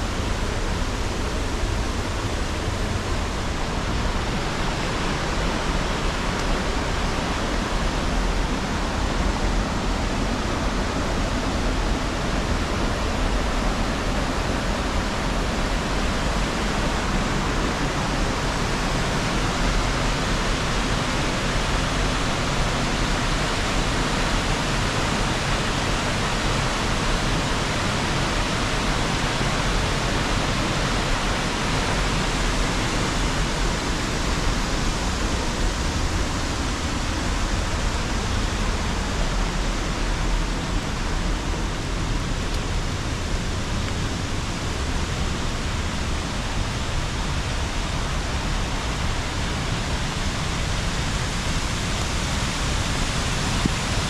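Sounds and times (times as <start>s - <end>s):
waterfall and river rushing: 0.0s - 54.0s.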